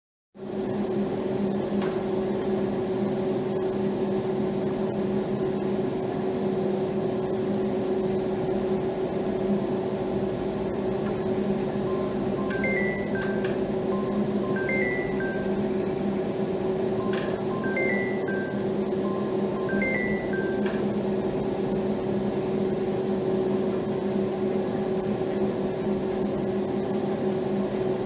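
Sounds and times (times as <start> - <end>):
steady mechanical hum: 0.4 - 28.0.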